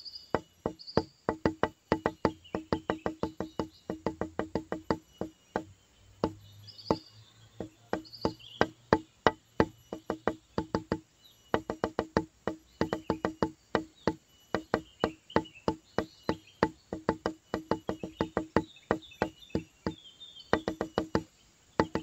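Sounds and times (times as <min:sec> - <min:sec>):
wooden knocks music: 0:00.3 - 0:22.0.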